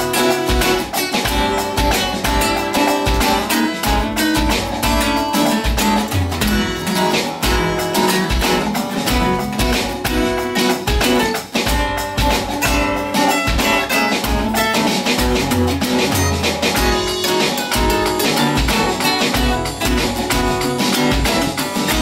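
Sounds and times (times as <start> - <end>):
acoustic guitars playing: 0.0 - 22.0
kick drum thumps: 0.5 - 22.0.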